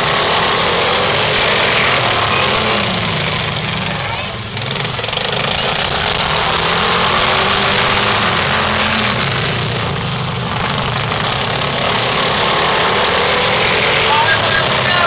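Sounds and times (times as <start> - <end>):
racing lawn mower engines: 0.0 - 15.0.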